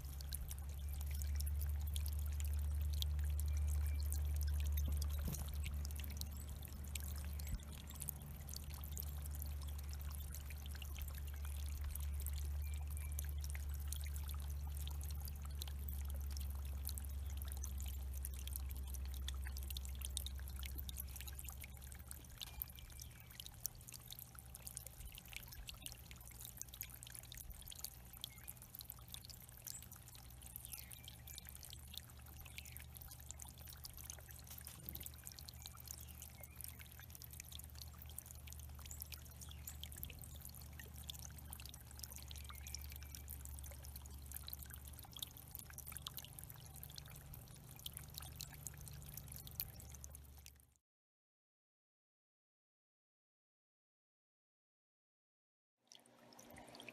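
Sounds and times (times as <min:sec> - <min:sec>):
water splashing over stones: 0:00.0 - 0:50.2.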